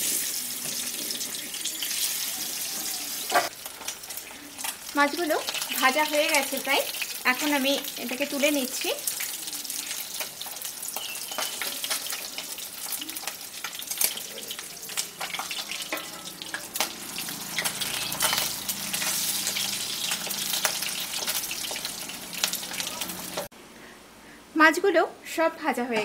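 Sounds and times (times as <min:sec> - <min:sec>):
fish frying in oil: 0:00.0 - 0:23.5.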